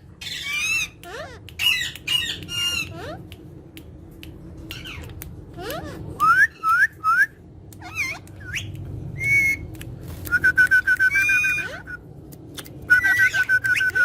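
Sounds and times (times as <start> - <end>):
parrots whistling and chirping: 0.0 - 3.3, 4.6 - 12.1, 12.8 - 14.0.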